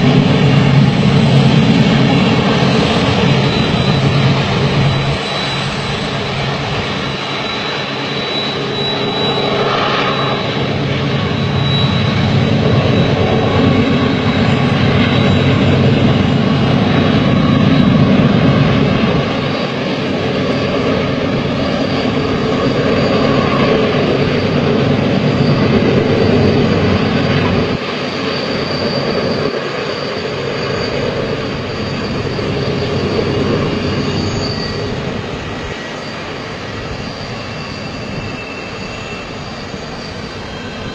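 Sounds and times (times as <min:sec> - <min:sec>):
freight train rumbling: 0:00.0 - 0:40.9.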